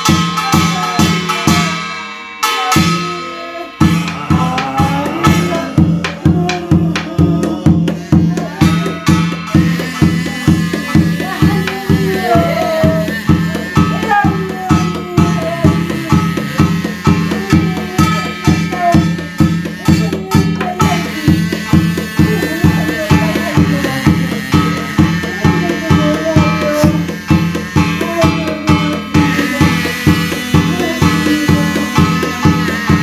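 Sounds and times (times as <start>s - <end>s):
barrel drum beaten: 0.0s - 33.0s
gongs struck: 0.0s - 33.0s
wavering melodic line: 0.7s - 33.0s.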